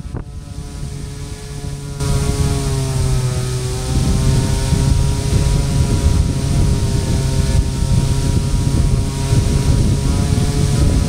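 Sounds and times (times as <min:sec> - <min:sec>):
electric motors whining: 0:00.0 - 0:11.0
wind on microphone: 0:00.0 - 0:11.0.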